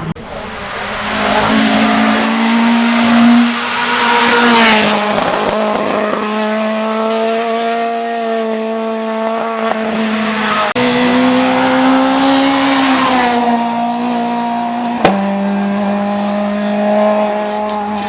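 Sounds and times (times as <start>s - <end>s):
race car engine at high revs: 0.0s - 18.0s.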